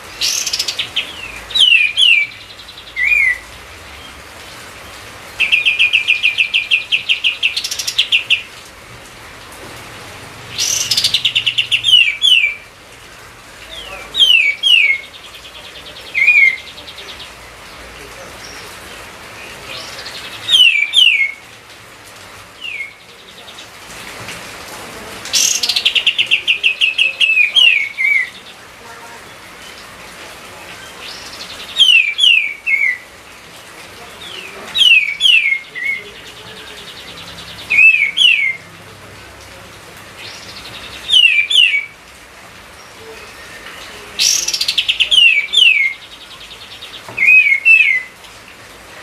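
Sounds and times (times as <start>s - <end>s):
songbird singing: 0.0s - 49.0s.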